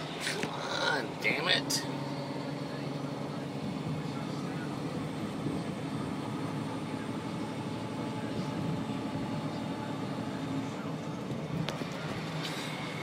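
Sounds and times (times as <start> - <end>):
truck diesel engine drone: 0.0 - 13.0.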